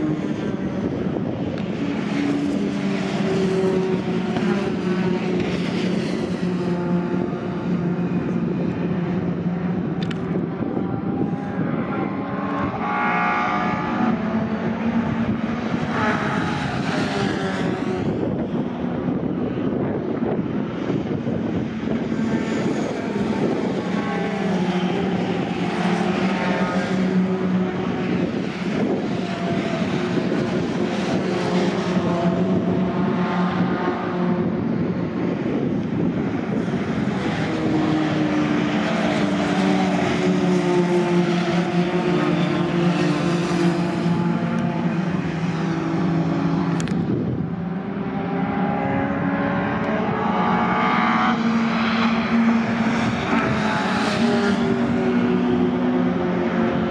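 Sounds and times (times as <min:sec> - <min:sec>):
racing truck engines accelerating: 0:00.0 - 0:56.9.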